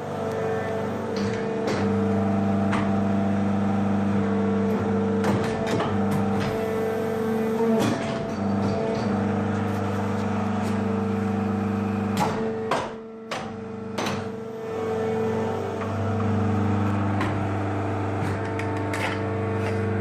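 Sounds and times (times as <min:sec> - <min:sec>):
tube bender hydraulic hum: 0:00.0 - 0:12.6, 0:13.6 - 0:20.0.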